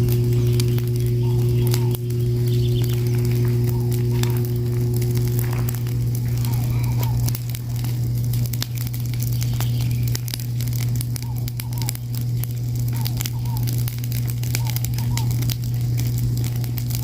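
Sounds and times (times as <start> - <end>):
fire crackling and popping: 0.0 - 17.0
steady low hum: 0.0 - 17.0.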